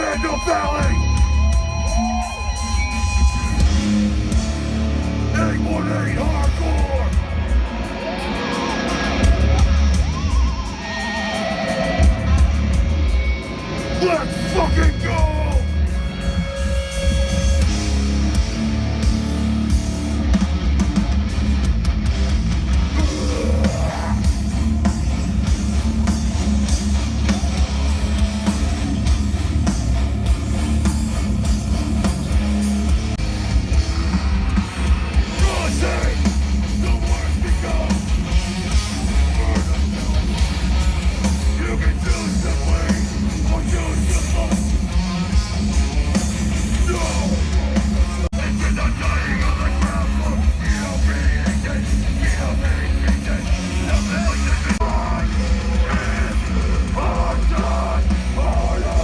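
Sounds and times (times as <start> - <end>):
band vocals: 0.0 - 59.0
distorted guitars: 0.0 - 59.0
drums pounding: 0.0 - 59.0.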